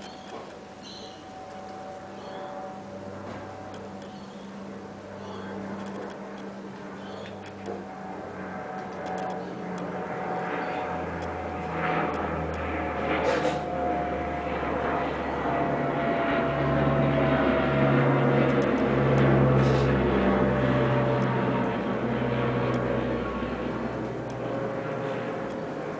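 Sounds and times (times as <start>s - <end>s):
aircraft engine drone overhead: 0.0s - 25.9s.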